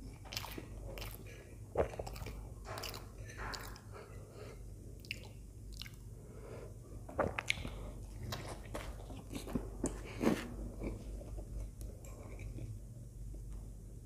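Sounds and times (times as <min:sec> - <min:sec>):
soft squishy chewing: 0:00.0 - 0:06.1, 0:07.2 - 0:12.8.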